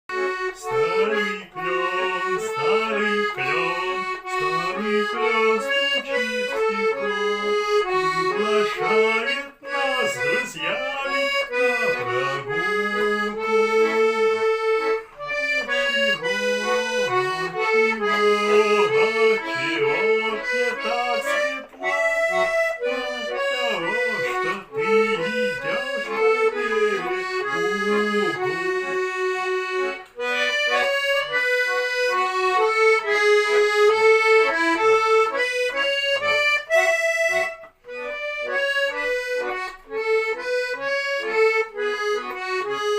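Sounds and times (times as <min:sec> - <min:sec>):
button accordion playing melody: 0:00.1 - 0:42.9.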